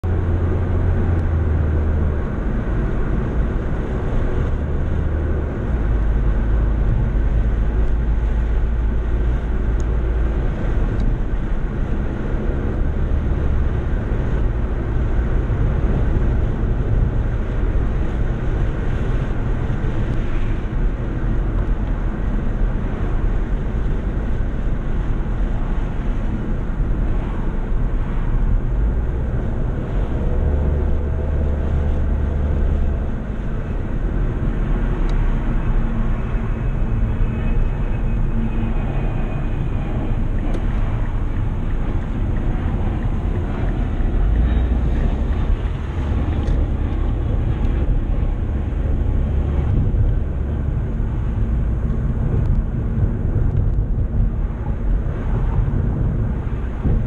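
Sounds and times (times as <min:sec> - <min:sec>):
car road and engine noise: 0:00.0 - 0:57.0
deep low rumble: 0:00.0 - 0:57.0.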